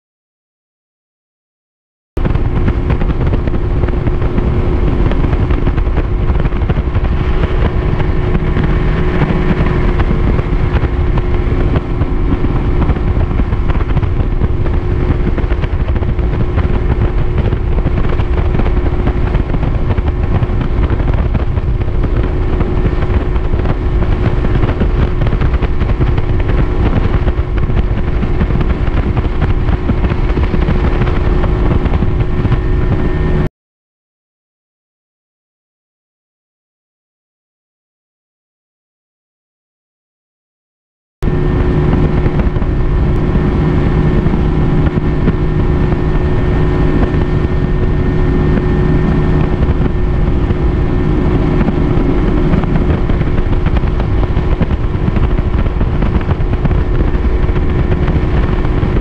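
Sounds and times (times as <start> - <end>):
hull rushing over water: 2.2 - 33.5, 41.2 - 59.0
outboard motor running: 2.2 - 33.5, 41.2 - 59.0
wind buffeting microphone: 2.2 - 33.5, 41.2 - 59.0.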